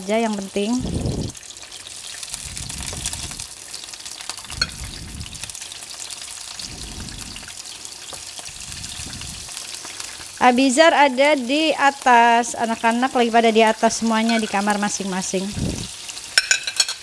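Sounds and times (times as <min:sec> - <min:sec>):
shrimp sizzling in a pan: 0:00.0 - 0:17.0.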